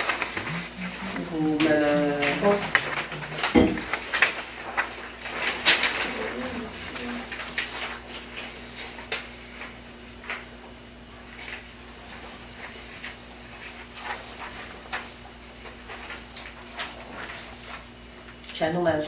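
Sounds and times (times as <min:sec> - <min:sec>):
paper rustling: 0:00.0 - 0:18.4
low electrical hum: 0:00.0 - 0:19.0.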